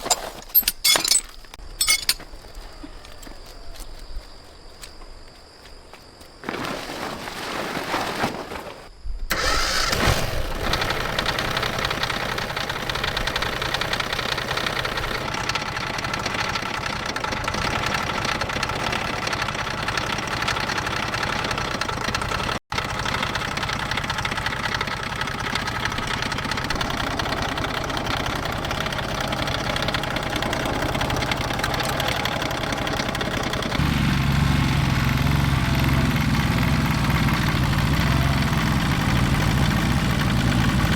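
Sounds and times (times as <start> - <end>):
tractor engine starting and running: 0.0 - 2.2, 9.3 - 40.9.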